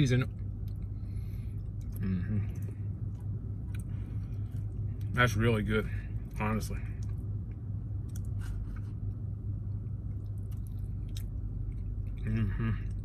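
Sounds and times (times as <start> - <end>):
steady low hum: 0.0 - 13.0
person chewing food: 0.4 - 5.1, 7.0 - 13.0.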